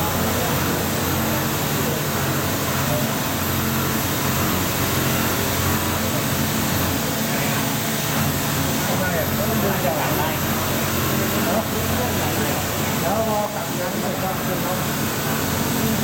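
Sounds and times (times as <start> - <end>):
milling machine cutting steel: 0.0 - 16.0.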